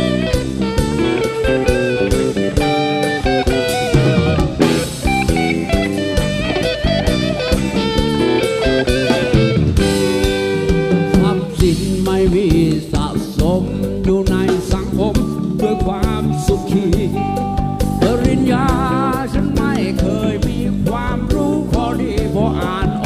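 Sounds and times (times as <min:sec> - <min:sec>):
drum kit and percussion: 0:00.0 - 0:23.0
electric guitar: 0:00.0 - 0:23.0.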